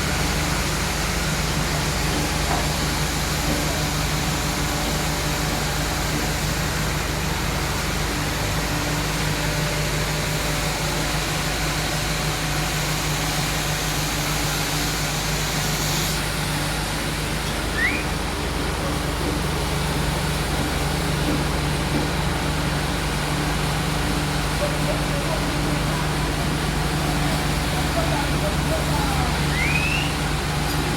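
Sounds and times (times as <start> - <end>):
sawmill machinery humming: 0.0 - 30.9.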